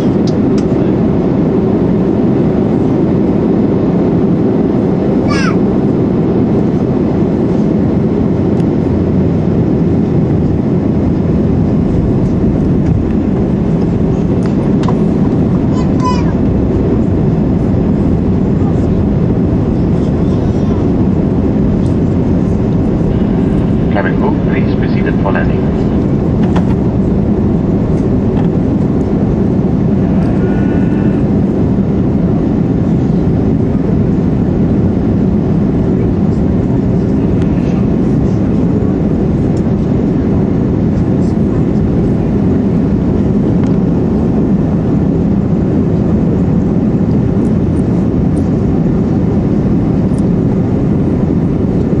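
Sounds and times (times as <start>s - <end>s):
airflow around fuselage: 0.0s - 52.0s
airplane cabin rumble: 0.0s - 52.0s.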